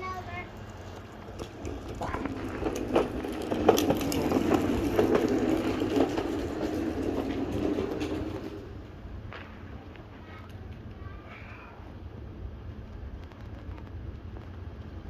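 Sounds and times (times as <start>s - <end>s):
wheels crunching over grit: 0.0s - 15.0s.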